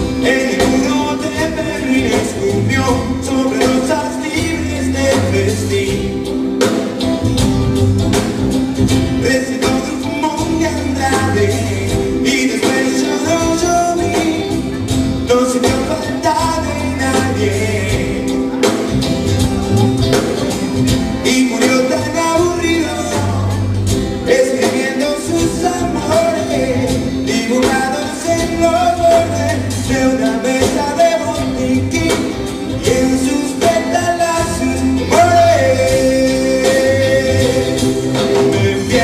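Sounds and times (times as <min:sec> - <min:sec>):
rock band playing live: 0:00.0 - 0:39.0.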